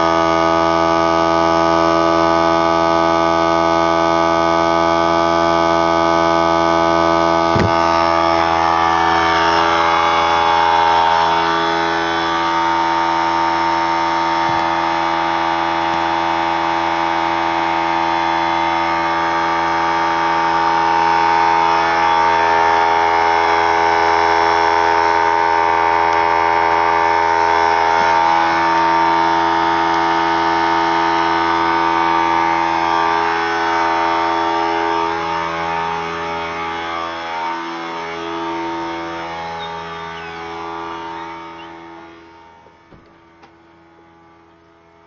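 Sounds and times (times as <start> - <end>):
air compressor running: 0.0 - 45.0.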